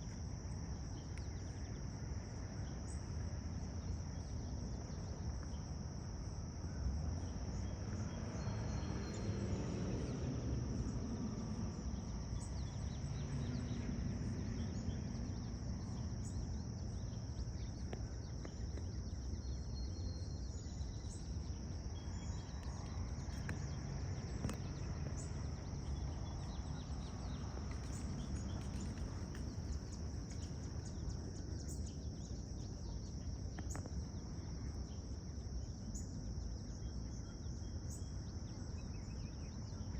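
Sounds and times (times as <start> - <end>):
insects trilling: 0.0 - 39.9
low background rumble: 0.0 - 39.9.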